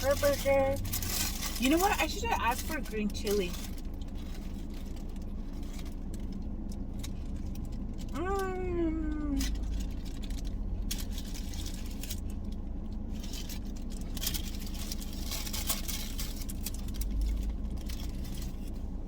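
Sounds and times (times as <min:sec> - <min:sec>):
car cabin hum: 0:00.0 - 0:19.0
paper wrappers rustling: 0:00.0 - 0:19.0.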